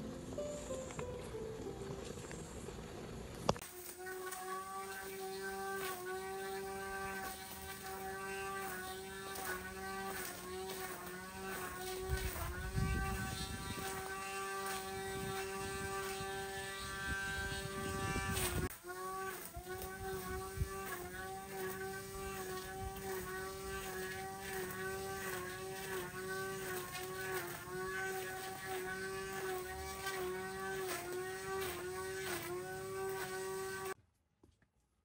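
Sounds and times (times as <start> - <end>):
string trimmer whining: 0.0 - 34.0.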